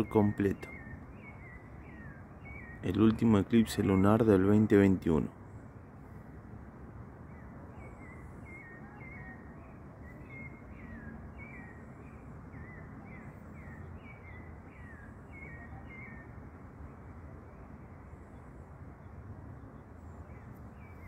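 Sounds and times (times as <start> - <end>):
low outdoor background hum: 0.0 - 21.0.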